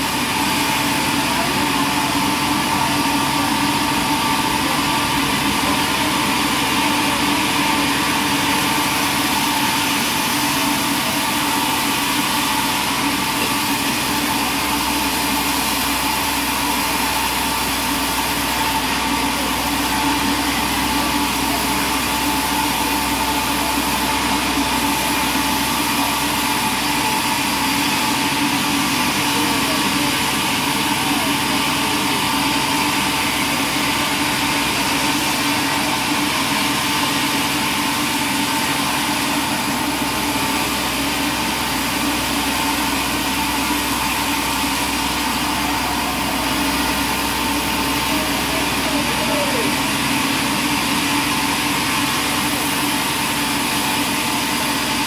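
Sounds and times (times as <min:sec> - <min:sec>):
sawmill saw droning: 0:00.0 - 0:55.0.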